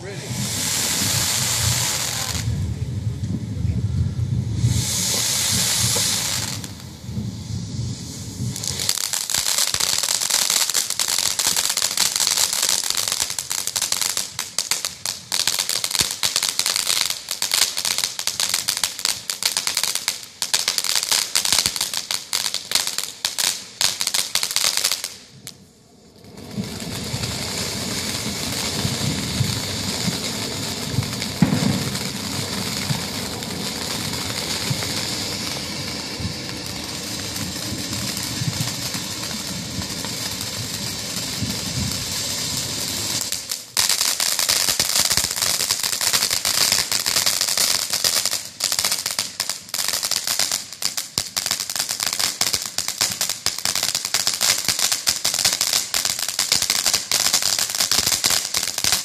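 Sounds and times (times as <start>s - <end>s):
firework fountain hissing and crackling: 0.0s - 59.0s.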